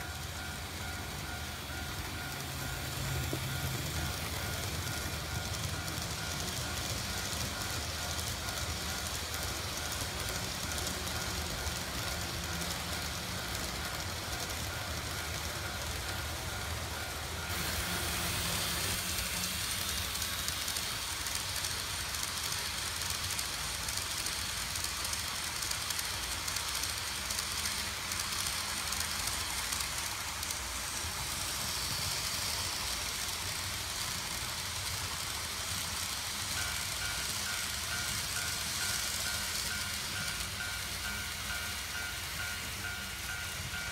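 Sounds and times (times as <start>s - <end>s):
model trains rolling on track: 0.0s - 43.9s.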